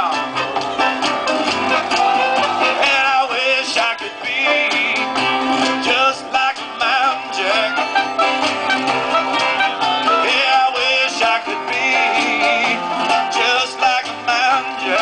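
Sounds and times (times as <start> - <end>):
acoustic string band music: 0.0 - 15.0.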